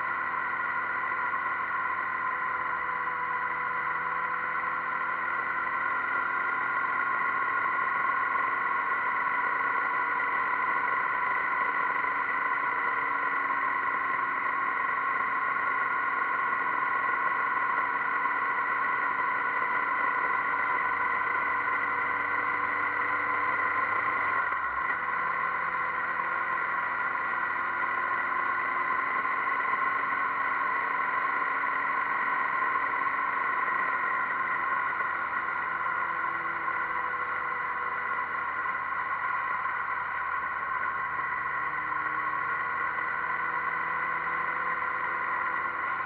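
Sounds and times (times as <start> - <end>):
motorcycle engine: 0.0 - 46.0.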